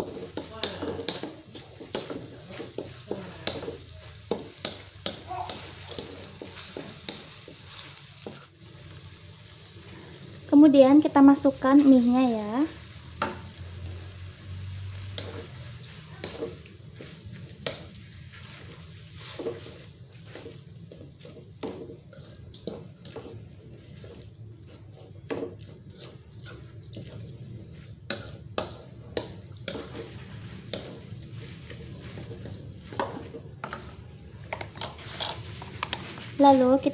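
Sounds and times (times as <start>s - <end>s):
utensil scraping and clacking on pan: 0.0s - 9.0s, 10.6s - 36.9s
low sizzle: 0.0s - 36.9s.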